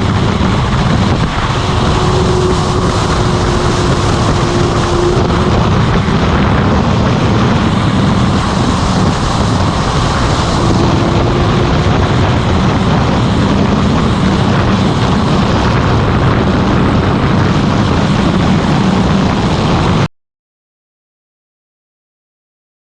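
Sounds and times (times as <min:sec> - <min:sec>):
motorcycle engine running: 0:00.0 - 0:20.0
wind rushing over microphone: 0:00.0 - 0:20.1.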